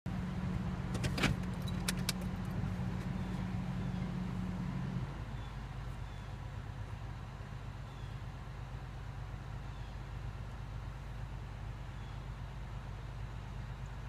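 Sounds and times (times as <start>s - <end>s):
diesel engine running: 0.1s - 14.0s.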